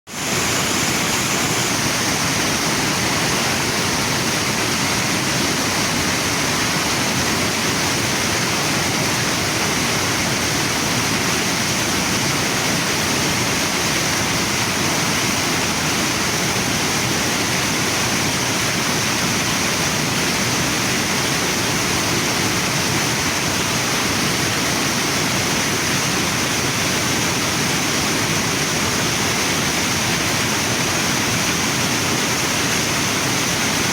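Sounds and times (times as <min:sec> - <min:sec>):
waterfall and river rushing: 0:00.1 - 0:33.9.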